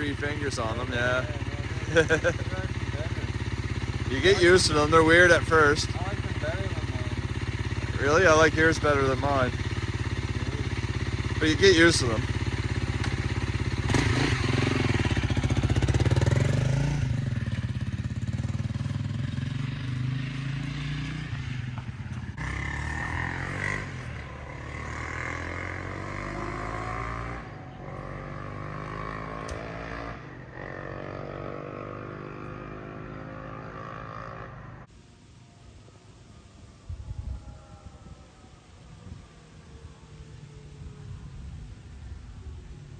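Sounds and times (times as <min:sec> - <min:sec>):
motorcycle accelerating through gears: 0:00.0 - 0:34.9.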